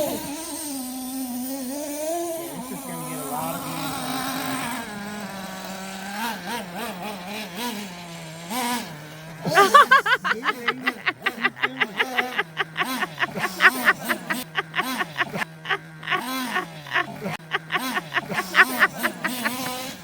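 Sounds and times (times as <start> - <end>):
nitro engine buzzing: 0.0 - 20.0.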